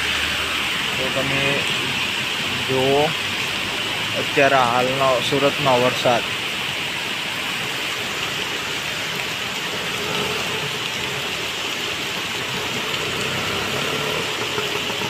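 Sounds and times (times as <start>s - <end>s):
heavy rain on flooded road: 0.0s - 15.0s.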